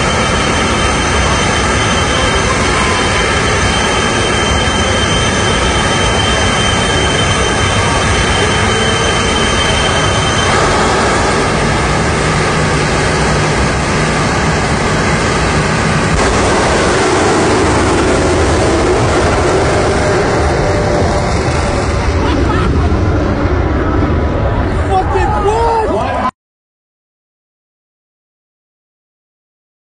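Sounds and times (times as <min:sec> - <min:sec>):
high whine: 0:00.0 - 0:26.3
jet engine roaring: 0:00.0 - 0:26.3.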